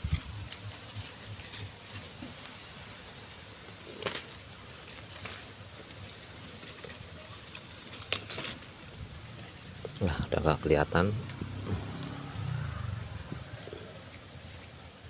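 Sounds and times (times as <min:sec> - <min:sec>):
foliage rustling: 0:00.0 - 0:15.0.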